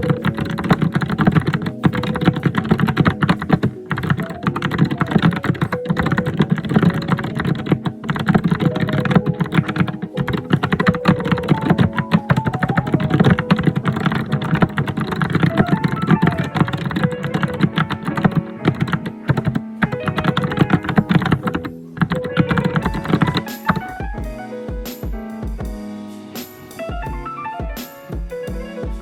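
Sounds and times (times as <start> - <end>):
fast keyboard typing: 0.0 - 24.2
background music: 0.0 - 29.0.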